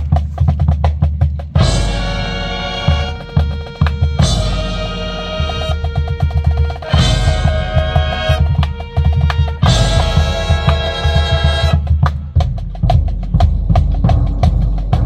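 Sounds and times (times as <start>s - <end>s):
drumline with bass drums and snares: 0.0s - 15.0s
brass chords: 1.6s - 15.0s.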